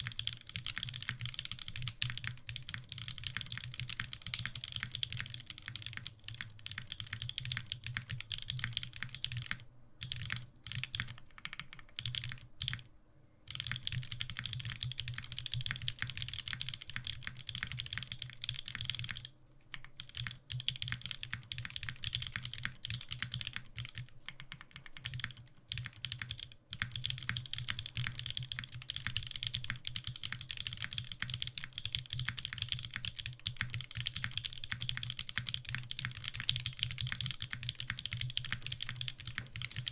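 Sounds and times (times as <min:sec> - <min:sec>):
mechanical keyboard typing: 0:00.0 - 0:12.9, 0:13.5 - 0:39.9.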